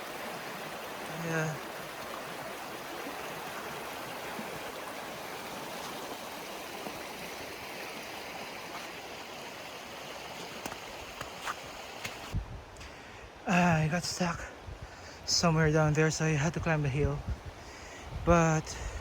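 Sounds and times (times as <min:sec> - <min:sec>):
river flowing: 0:00.0 - 0:15.4.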